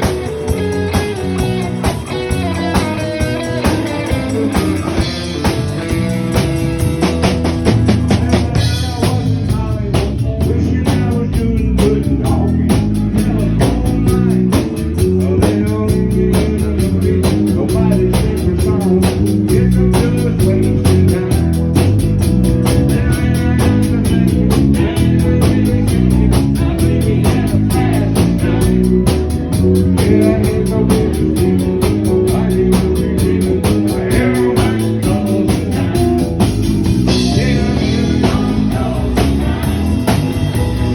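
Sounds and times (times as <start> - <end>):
band playing a song: 0.0 - 40.9.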